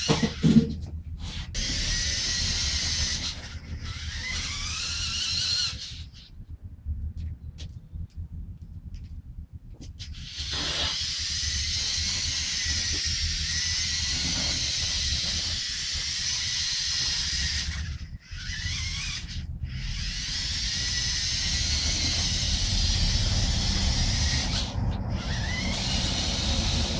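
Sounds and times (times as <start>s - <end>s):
toy car motor whining: 0.0s - 6.3s, 10.0s - 26.9s.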